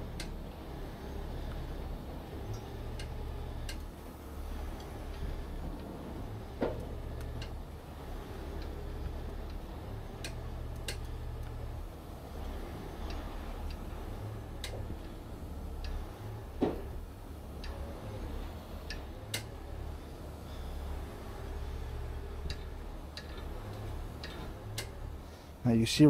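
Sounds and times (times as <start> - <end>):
cables and chains ticking and clicking: 0.0 - 26.0.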